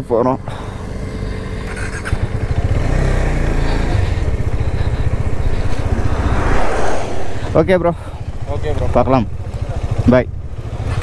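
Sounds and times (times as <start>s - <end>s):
motorcycle engine idling: 0.0s - 6.5s, 7.4s - 11.0s.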